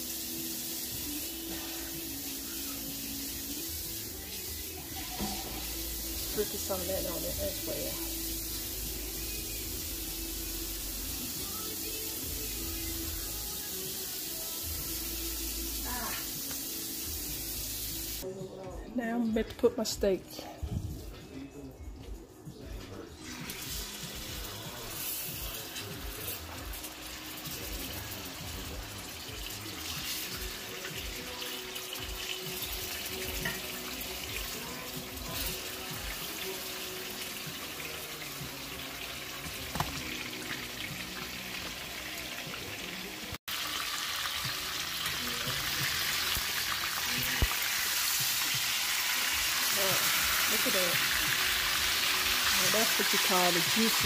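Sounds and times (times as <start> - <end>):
steaks sizzling in oil: 0.0 - 18.3, 23.2 - 54.0.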